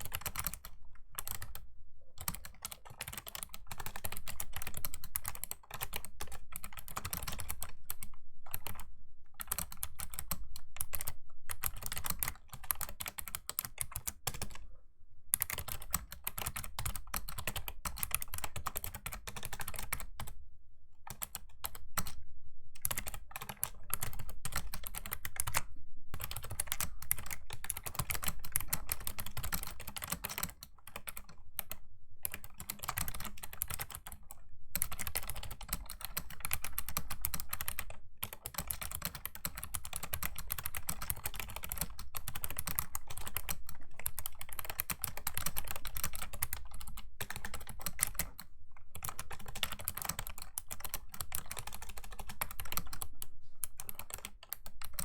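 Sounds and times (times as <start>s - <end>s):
keyboard typing: 0.0s - 1.6s, 2.2s - 14.6s, 15.4s - 20.4s, 21.1s - 22.2s, 22.8s - 55.0s.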